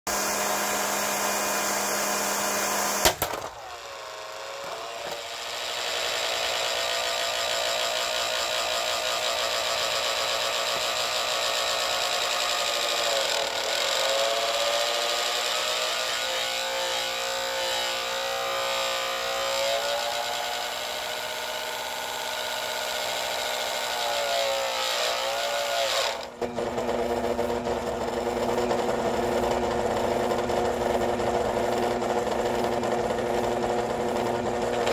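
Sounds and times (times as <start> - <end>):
blender motor whining: 0.1 - 34.9.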